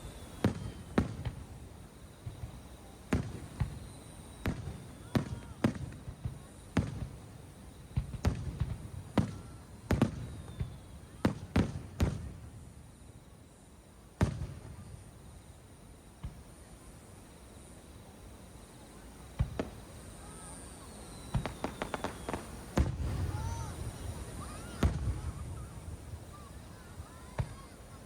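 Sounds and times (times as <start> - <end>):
fireworks bursting with rumbling tail: 0.0 - 28.0.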